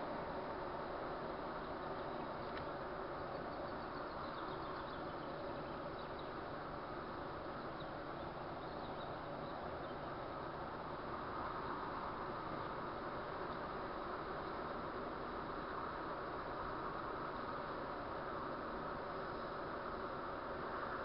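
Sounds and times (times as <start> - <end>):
car interior road noise: 0.0 - 21.0.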